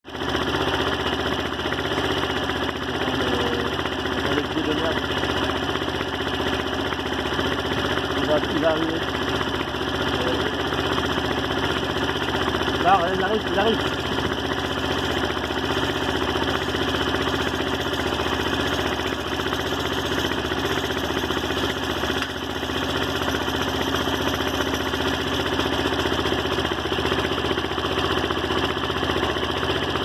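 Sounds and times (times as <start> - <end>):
motorcycle engine idling: 0.1 - 30.0.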